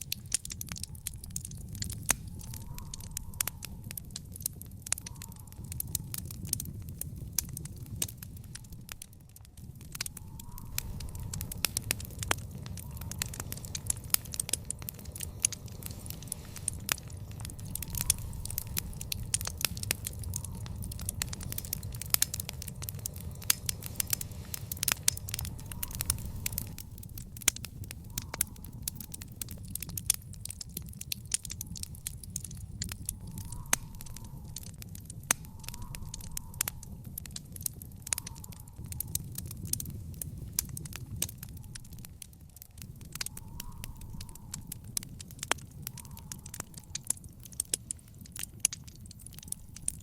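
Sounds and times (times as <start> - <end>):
fire crackling and popping: 0.0 - 50.0
low rumble of burning: 0.0 - 50.0.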